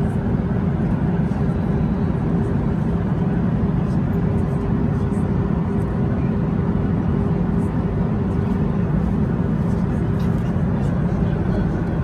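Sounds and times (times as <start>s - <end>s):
airplane cabin drone: 0.0s - 12.0s
faint constant hum: 0.0s - 12.0s.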